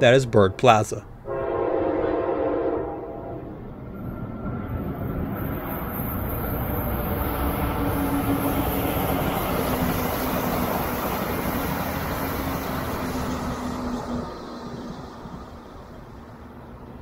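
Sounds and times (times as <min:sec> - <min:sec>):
passenger train passing: 0:00.0 - 0:17.0.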